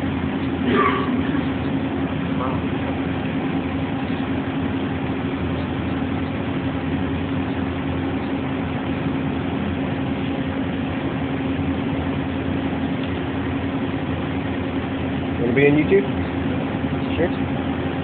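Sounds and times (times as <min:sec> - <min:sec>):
shop machinery humming: 0:00.0 - 0:18.0.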